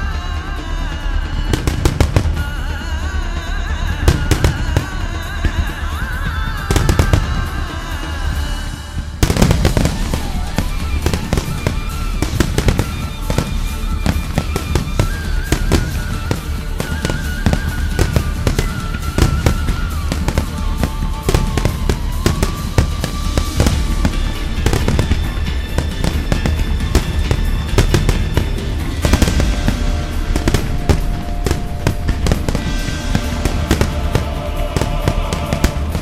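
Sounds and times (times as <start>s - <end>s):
firework shells bursting: 1.4s - 3.2s, 3.9s - 36.0s.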